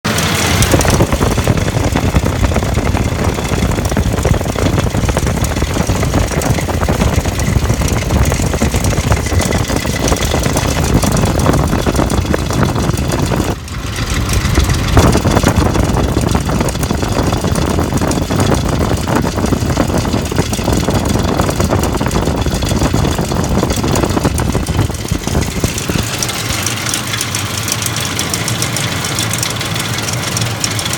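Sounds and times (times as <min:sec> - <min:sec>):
truck engine idling with knock: 0:00.1 - 0:30.9.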